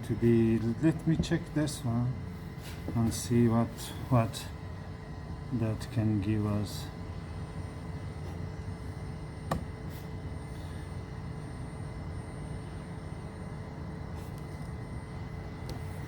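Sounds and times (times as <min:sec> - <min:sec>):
faint steady tones: 0:00.0 - 0:16.0
steady low hum: 0:00.0 - 0:16.0.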